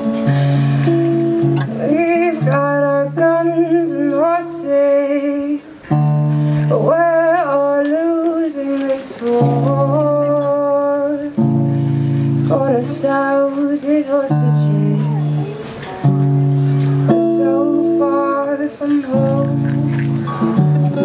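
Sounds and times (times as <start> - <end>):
woman singing: 0.0 - 16.1, 17.0 - 21.0
strummed acoustic guitar: 0.0 - 21.0.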